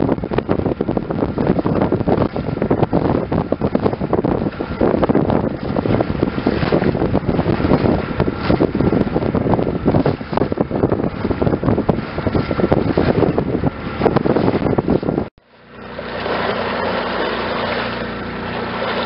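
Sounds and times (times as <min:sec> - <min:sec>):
boat bow splashing through water: 0:00.0 - 0:19.0
wind buffeting microphone: 0:00.0 - 0:19.0.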